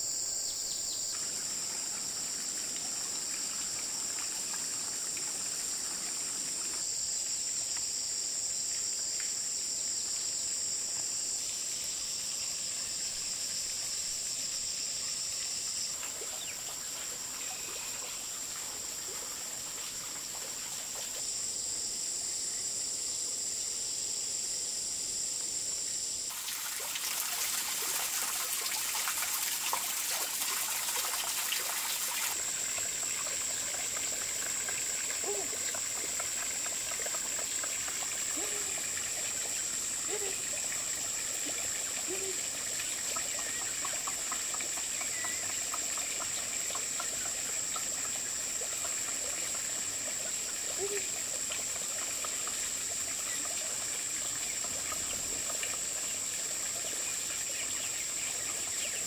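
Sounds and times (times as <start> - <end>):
insects buzzing: 0.0 - 59.0
water trickling: 0.9 - 8.0, 11.6 - 21.3, 26.3 - 59.0
rushing water: 1.1 - 7.7, 12.6 - 21.2, 26.3 - 59.0.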